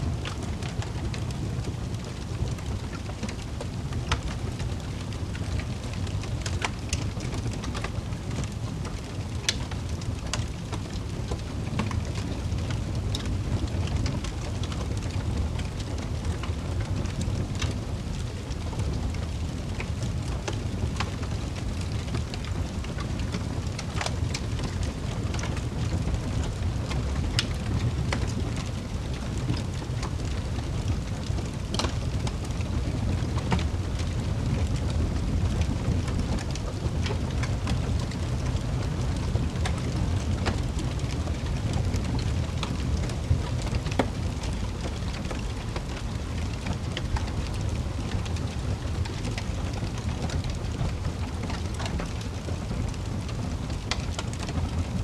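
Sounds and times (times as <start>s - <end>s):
fire low rumble: 0.0s - 55.0s
wood fire popping and snapping: 0.0s - 55.0s.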